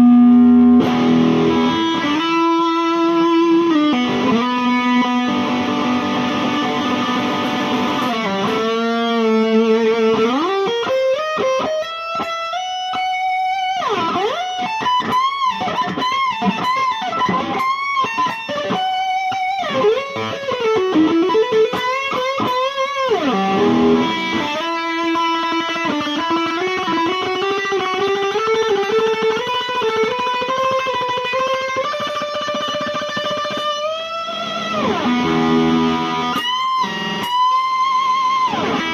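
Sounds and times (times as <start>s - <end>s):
electric guitar lead line: 0.0s - 38.9s.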